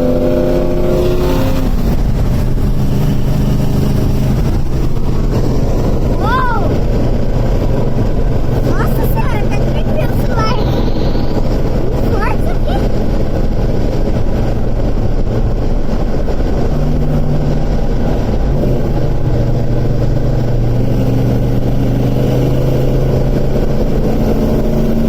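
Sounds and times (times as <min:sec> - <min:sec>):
car engine rumbling: 0:00.0 - 0:25.0
road and wind noise: 0:00.0 - 0:25.0.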